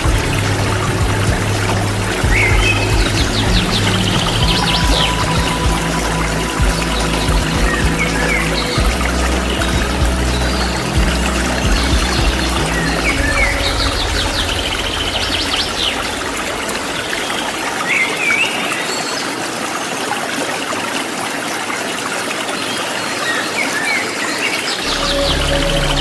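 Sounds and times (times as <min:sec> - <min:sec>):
waterfall rushing water: 0:00.0 - 0:26.0.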